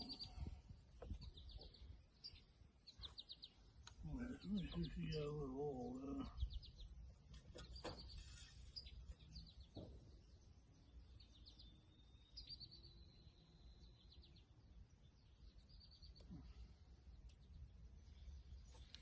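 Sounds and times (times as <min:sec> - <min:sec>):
faint birdsong chirps and trill: 0:00.0 - 0:19.0.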